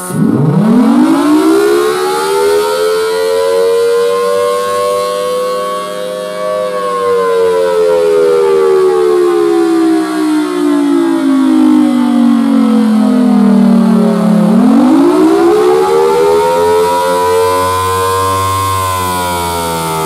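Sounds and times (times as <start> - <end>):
rotating siren wailing: 0.0 - 20.0.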